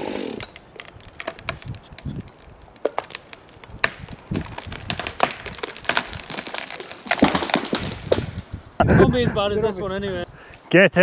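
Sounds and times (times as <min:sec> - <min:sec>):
wood cracking and splintering: 0:00.0 - 0:09.1.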